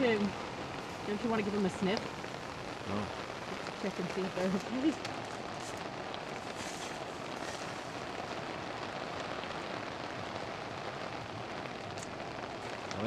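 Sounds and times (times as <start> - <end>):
rain on a tarp: 0.0 - 13.0.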